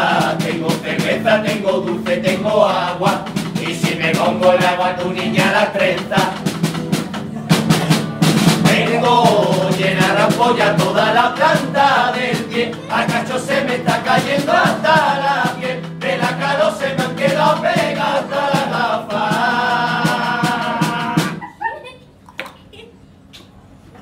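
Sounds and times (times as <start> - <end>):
men singing in unison: 0.0 - 6.9, 8.3 - 21.4
steady drum beats: 0.0 - 21.5.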